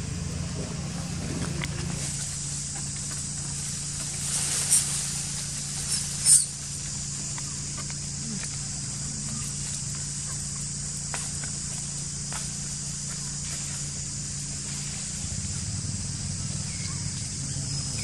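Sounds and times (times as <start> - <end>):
insect-like buzz: 0.0 - 18.0.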